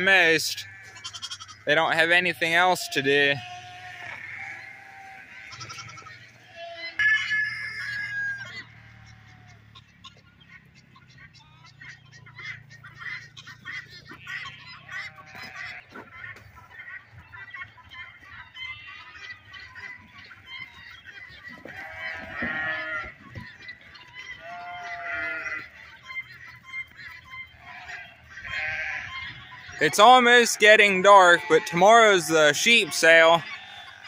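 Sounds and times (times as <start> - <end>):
poultry honking and clucking: 0.0 - 34.0.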